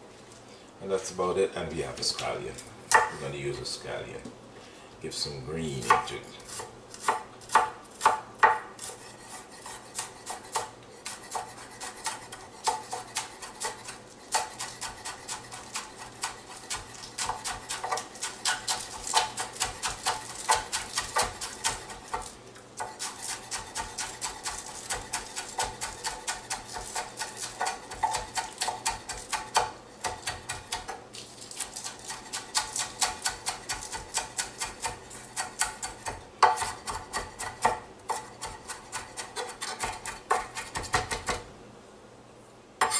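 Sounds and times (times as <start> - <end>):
knife chopping on cutting board: 2.9 - 3.2, 5.8 - 31.0, 31.6 - 41.5.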